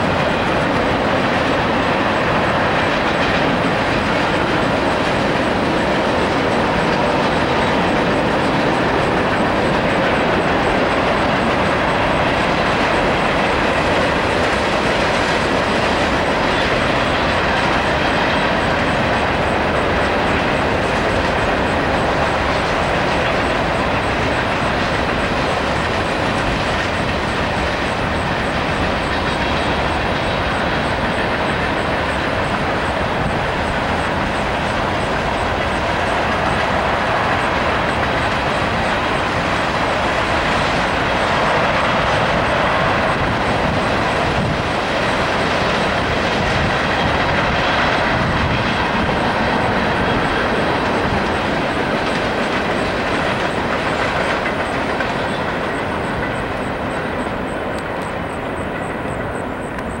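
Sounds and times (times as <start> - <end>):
freight cars rumbling on rails: 0.0 - 60.0.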